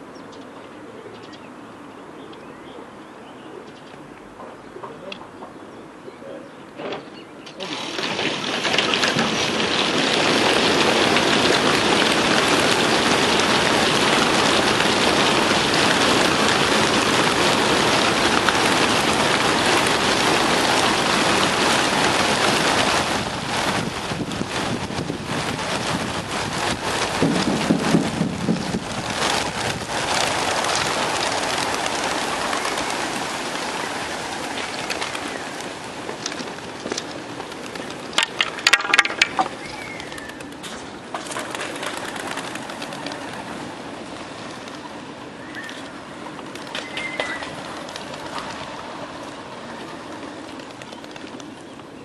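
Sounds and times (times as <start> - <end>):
pigeon wings flapping: 7.6 - 52.0.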